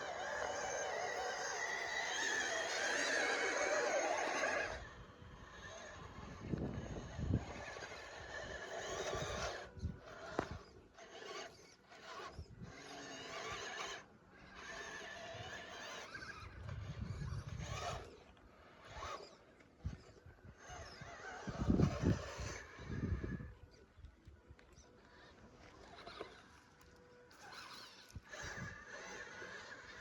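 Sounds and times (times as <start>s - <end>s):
radio-controlled truck grinding: 0.0s - 30.0s.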